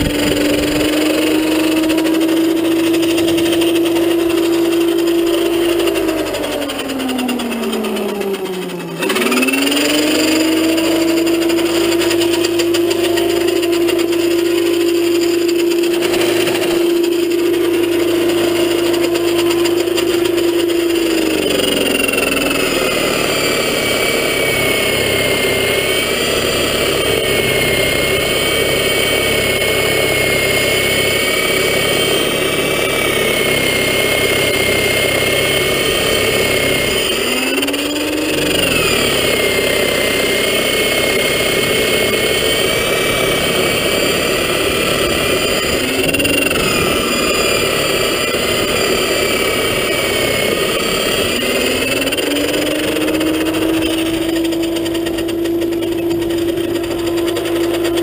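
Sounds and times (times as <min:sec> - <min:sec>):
electric snowblower motor whining: 0:00.0 - 0:58.0.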